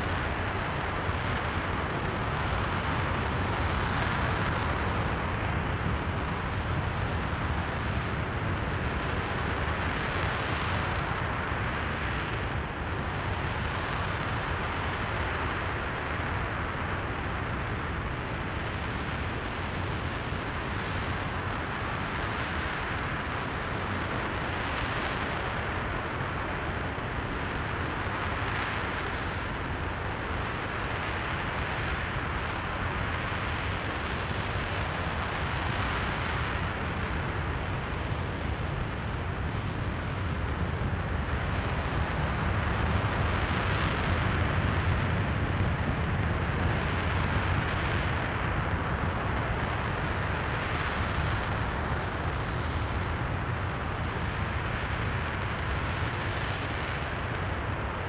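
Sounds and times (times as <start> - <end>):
rocket engine roaring: 0.0 - 58.0.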